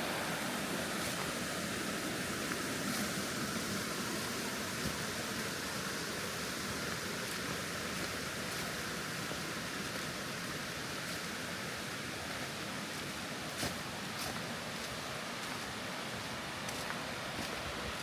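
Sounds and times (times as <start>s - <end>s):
rushing forest noise: 0.0s - 18.0s.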